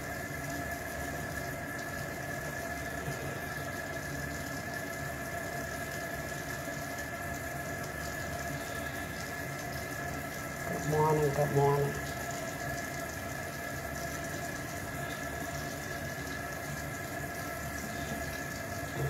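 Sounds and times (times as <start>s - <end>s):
faucet running into sink: 0.0s - 19.0s.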